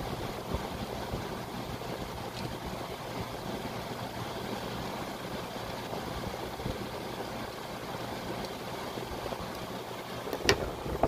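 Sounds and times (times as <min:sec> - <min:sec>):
air conditioner blower rushing: 0:00.0 - 0:11.0.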